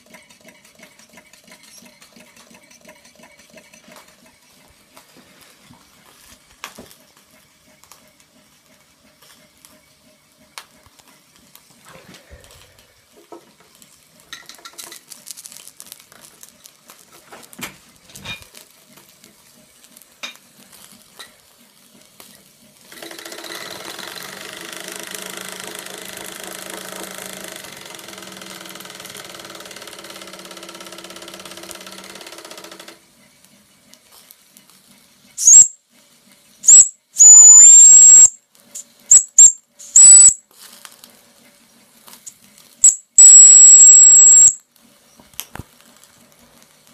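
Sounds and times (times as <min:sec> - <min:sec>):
small steam engine whirring hiss: 0:00.0 - 0:46.9.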